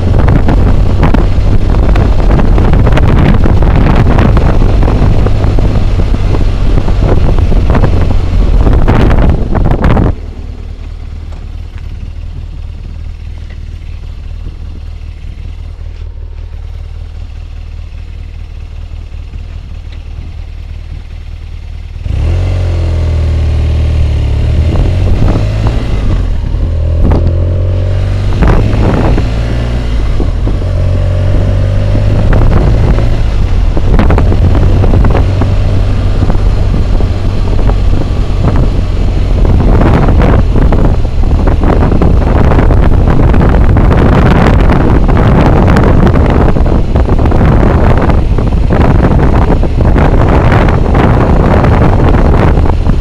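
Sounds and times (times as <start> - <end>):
wind roar: 0.0 - 21.3, 22.0 - 53.0
motorcycle engine accelerating: 0.0 - 53.0.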